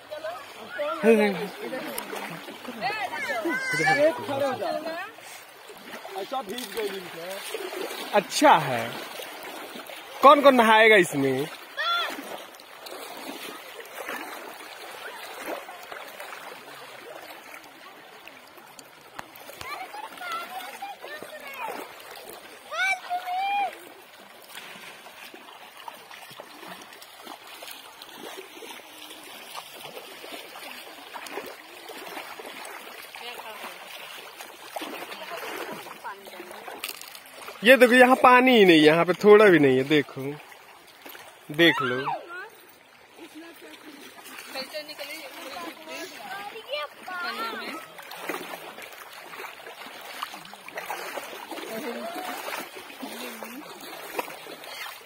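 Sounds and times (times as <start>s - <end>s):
feet wading splashes: 0.0s - 55.0s
river water flowing: 0.0s - 55.0s.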